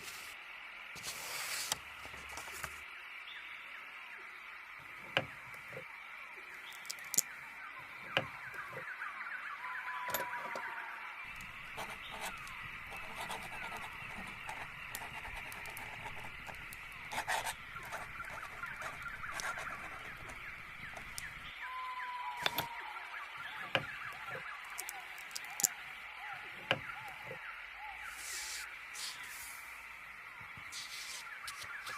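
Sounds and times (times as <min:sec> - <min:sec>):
small birds chirping: 0:04.8 - 0:09.0, 0:09.6 - 0:31.9.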